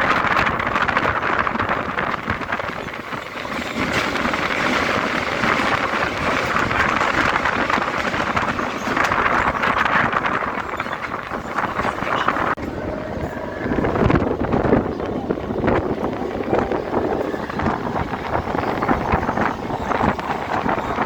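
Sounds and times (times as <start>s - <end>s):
train rushing and rattling: 0.0s - 21.0s.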